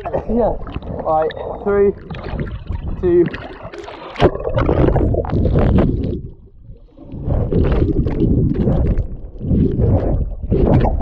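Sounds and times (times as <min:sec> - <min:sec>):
underwater water churning: 0:00.0 - 0:11.0.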